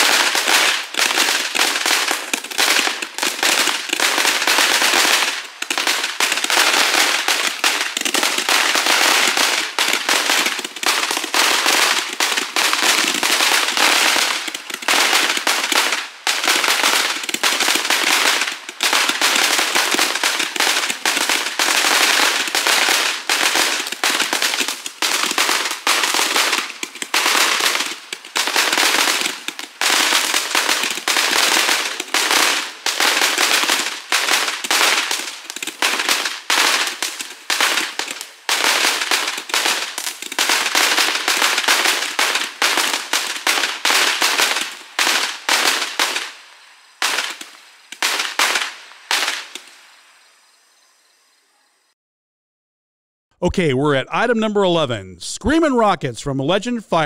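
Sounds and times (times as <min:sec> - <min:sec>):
roman candle fireworks popping: 0:00.0 - 0:51.6, 0:53.8 - 0:57.0.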